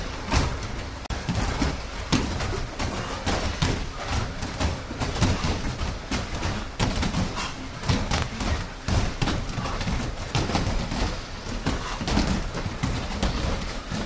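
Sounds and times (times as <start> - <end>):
bare feet thudding on mats: 0.0 - 14.0.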